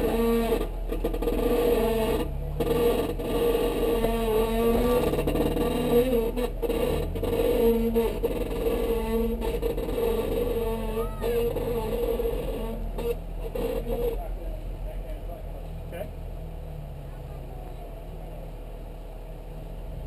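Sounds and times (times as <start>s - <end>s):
car engine running at low speed: 0.0s - 20.0s.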